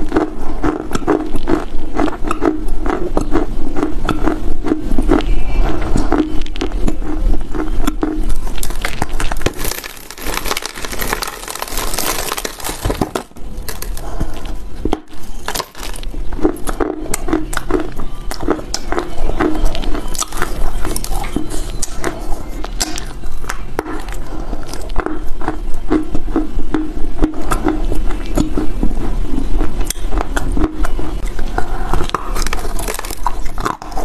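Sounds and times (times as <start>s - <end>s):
crunching of dry clay: 0.0s - 34.0s
quiet chewing: 0.0s - 34.0s.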